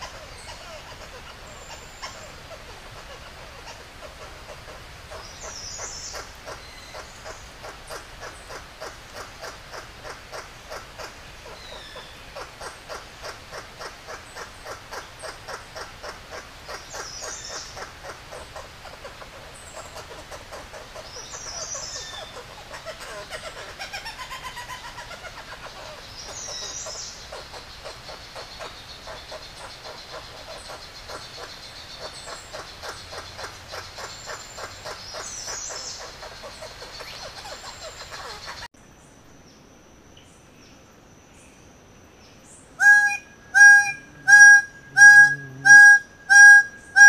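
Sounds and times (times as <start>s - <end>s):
bird song of rapid pulses: 5.0s - 38.7s, 42.3s - 47.0s.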